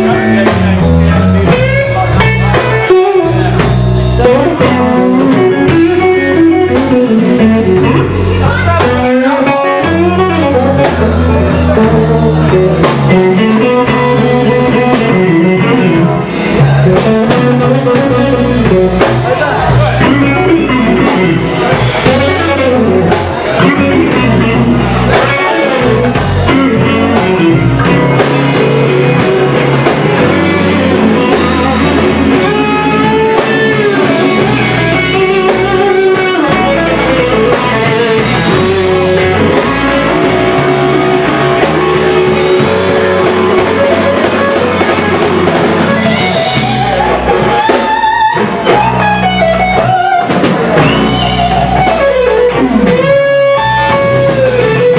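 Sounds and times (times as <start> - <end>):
drum kit: 0.0 - 54.9
electric guitar lead: 0.0 - 54.9.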